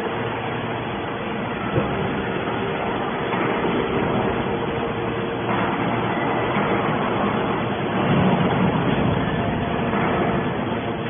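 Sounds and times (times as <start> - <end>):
hydraulic machine hum: 0.0 - 11.0
noisy mechanical din: 0.0 - 11.0.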